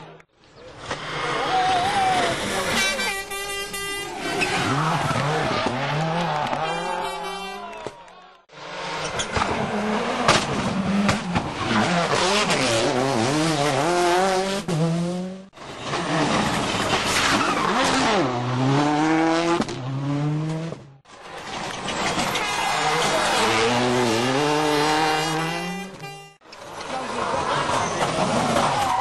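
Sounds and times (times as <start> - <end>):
rally car engines revving: 4.0 - 7.7, 8.5 - 29.0.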